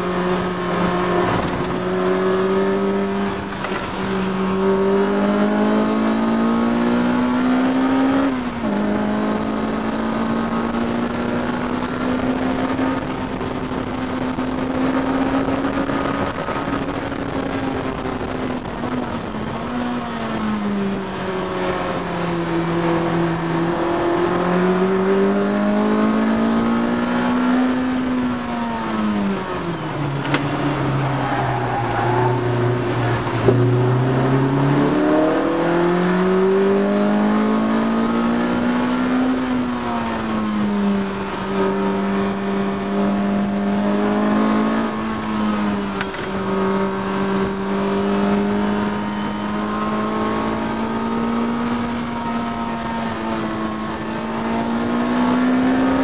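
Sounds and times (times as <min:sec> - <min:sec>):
car engine revving through gears: 0:00.0 - 0:56.0.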